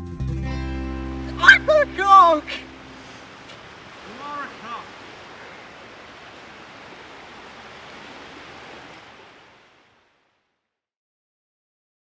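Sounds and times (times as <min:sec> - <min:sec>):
wind: 0:00.4 - 0:10.6
sea rushing: 0:00.5 - 0:10.5.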